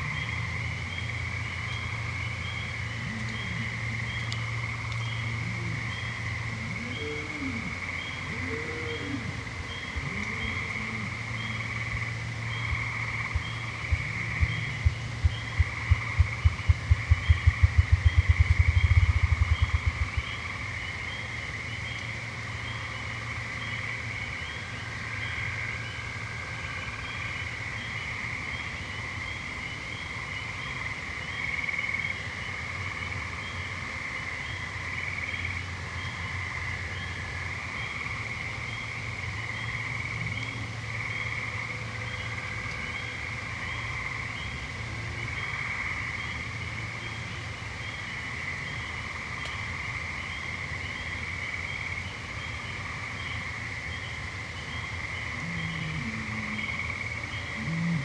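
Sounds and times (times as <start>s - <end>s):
frogs trilling: 0.0s - 58.0s
low steady hum: 0.0s - 58.0s.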